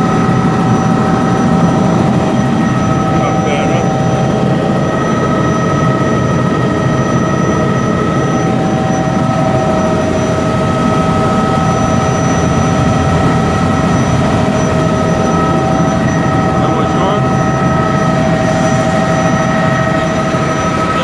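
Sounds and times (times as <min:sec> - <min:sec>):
helicopter rotor and engine drone: 0:00.0 - 0:21.0
high whine: 0:00.0 - 0:21.0.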